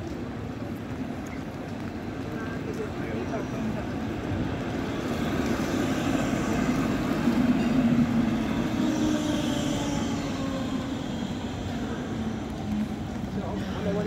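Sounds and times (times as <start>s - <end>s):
tram low hum: 0.0s - 14.0s
tram wheels rolling on wet rails: 0.0s - 14.0s.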